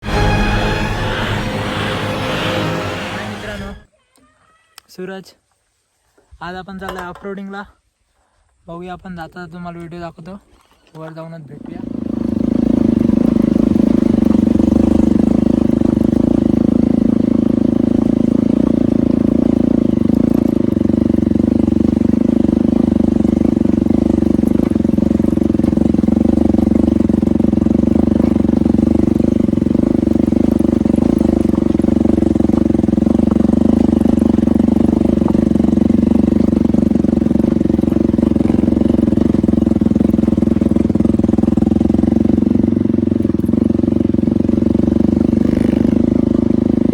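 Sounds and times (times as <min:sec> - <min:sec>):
motorcycle engine running: 0:00.0 - 0:03.8, 0:11.6 - 0:46.9.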